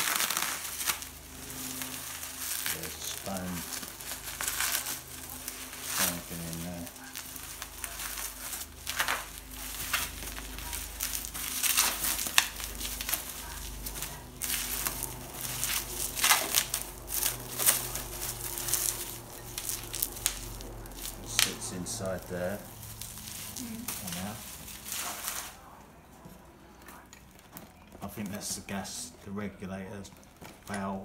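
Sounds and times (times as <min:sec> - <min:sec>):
bubble wrap crinkling: 0:00.0 - 0:31.0.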